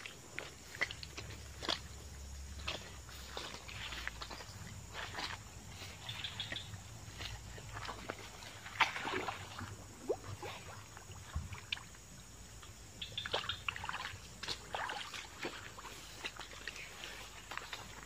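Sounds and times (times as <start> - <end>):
feet splashing in muddy water: 0.0 - 18.0.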